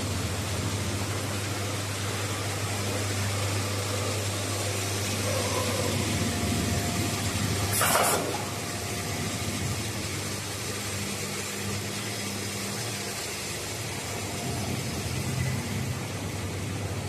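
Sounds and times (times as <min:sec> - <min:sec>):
welding machine humming: 0:00.0 - 0:17.0.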